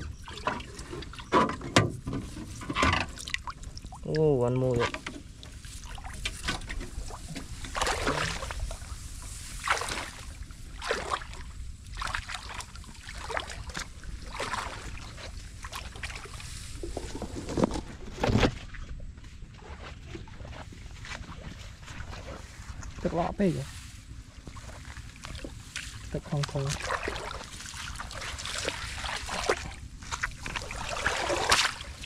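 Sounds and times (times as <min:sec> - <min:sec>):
wading through muddy water: 0:00.0 - 0:32.0.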